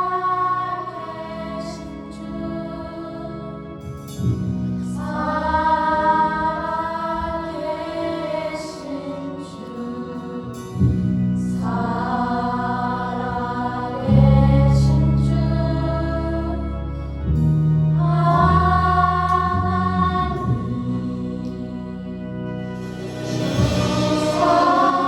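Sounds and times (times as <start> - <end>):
choir singing: 0.0 - 25.0
musical accompaniment: 0.0 - 25.0.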